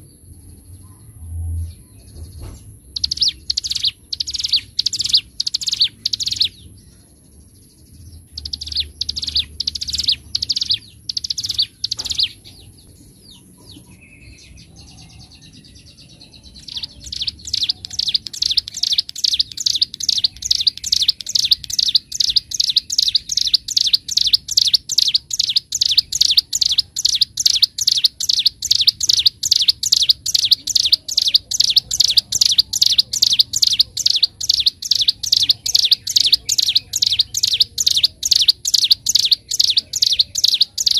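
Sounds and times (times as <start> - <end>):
songbird singing sharp notes: 0.0 - 40.9.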